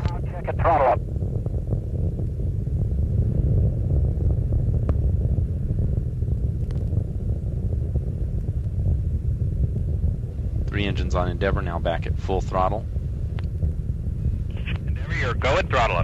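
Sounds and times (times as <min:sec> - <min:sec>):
rocket engines low rumble: 0:00.0 - 0:16.0.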